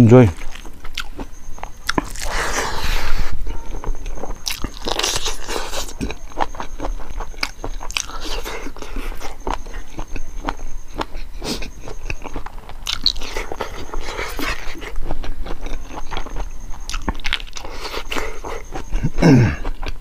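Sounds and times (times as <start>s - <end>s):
chewing and crunching: 0.2s - 20.0s.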